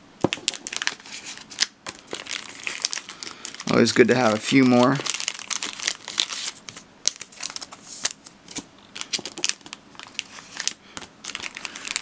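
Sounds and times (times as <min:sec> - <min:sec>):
plastic sleeves crinkling: 0:00.2 - 0:12.0.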